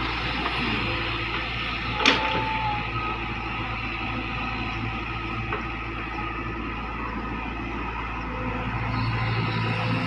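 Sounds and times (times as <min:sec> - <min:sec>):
excavator diesel engine humming: 0:00.0 - 0:10.0.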